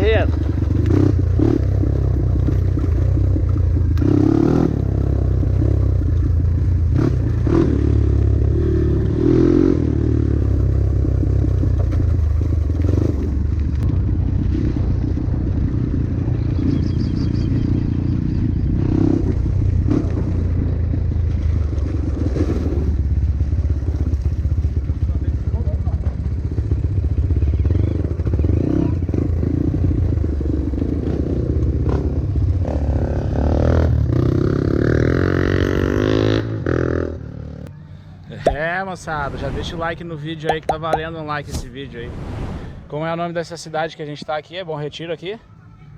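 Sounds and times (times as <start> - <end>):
motorcycle engine running: 0.0 - 38.6.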